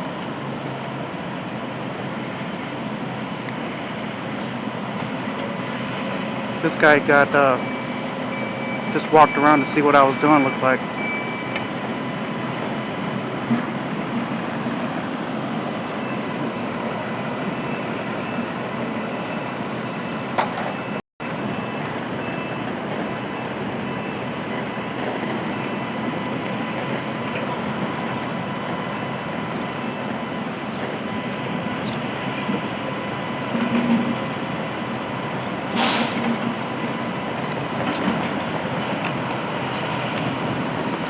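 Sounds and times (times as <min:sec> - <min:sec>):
construction machinery: 0:00.0 - 0:41.0
street traffic: 0:00.0 - 0:41.0.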